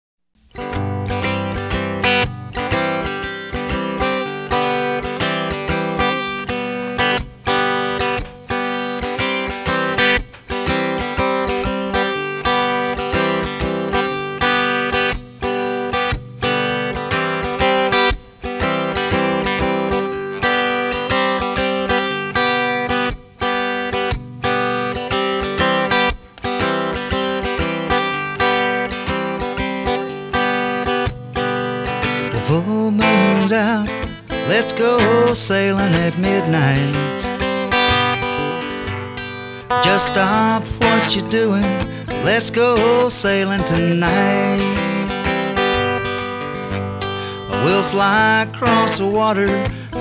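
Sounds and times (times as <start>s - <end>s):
strummed acoustic guitar: 0.4s - 50.0s.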